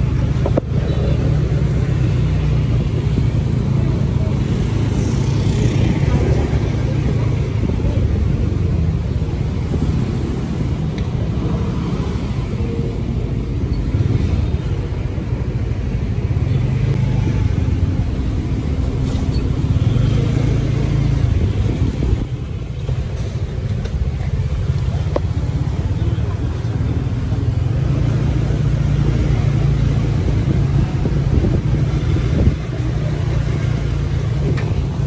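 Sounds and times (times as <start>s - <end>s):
vehicle engine and road rumble: 0.0s - 35.0s.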